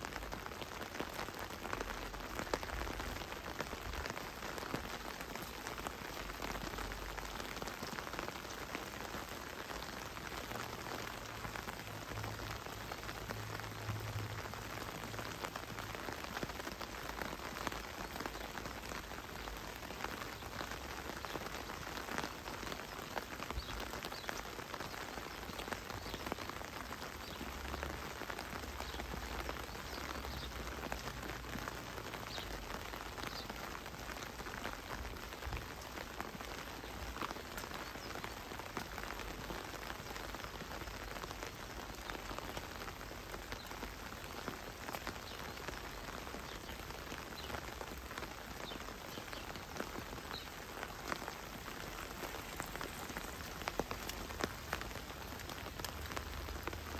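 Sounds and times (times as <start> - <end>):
heavy rain: 0.0 - 56.9.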